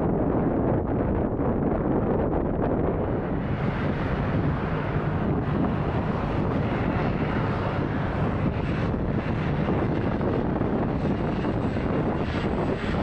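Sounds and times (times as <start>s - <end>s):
turboprop plane drone: 0.0s - 13.0s
wind buffeting microphone: 0.0s - 13.0s.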